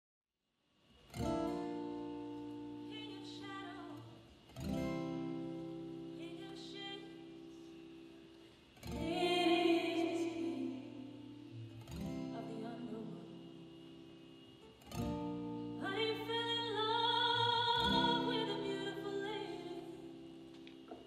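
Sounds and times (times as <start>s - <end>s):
acoustic guitar strummed chords: 1.1s - 21.0s.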